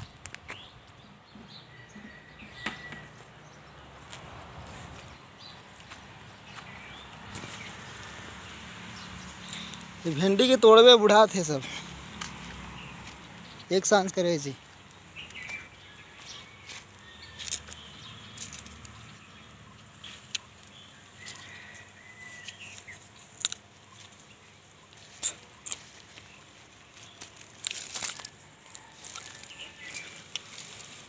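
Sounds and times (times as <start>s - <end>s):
dry plants rustling: 3.1s - 31.0s
footsteps crackling: 3.9s - 13.7s, 14.6s - 31.0s.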